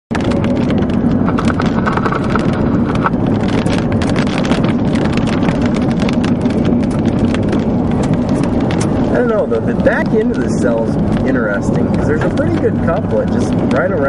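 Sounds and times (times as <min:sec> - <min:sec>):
gravel crackling under tyres: 0:00.1 - 0:14.0
vehicle engine and road drone: 0:00.1 - 0:14.0.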